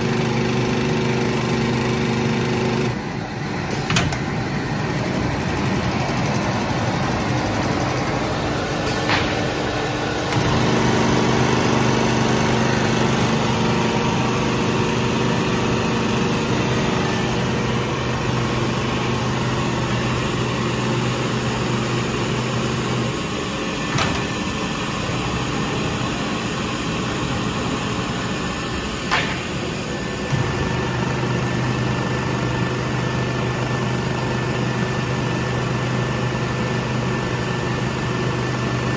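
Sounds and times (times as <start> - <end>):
motor hum: 0.0 - 36.5
tape-binding machine running: 0.0 - 38.9.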